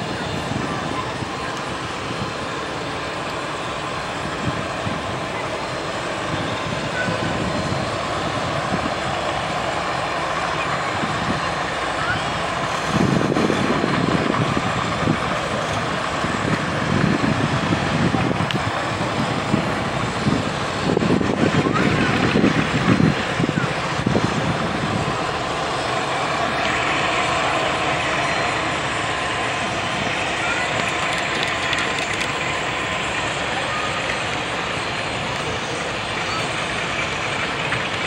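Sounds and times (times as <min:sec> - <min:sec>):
propeller aircraft engines running: 0:00.0 - 0:38.0.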